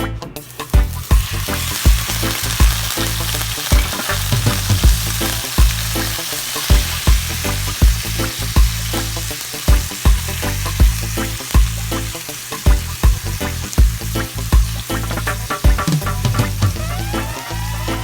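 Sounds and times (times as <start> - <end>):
background music with steady beat: 0.0 - 18.0
food sizzling in a hot pan: 0.4 - 18.0.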